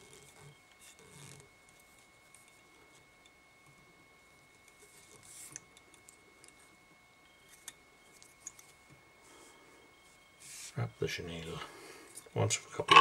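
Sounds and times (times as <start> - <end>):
faint rustles and clicks: 0.0 - 12.4
faint high hum: 0.0 - 13.0.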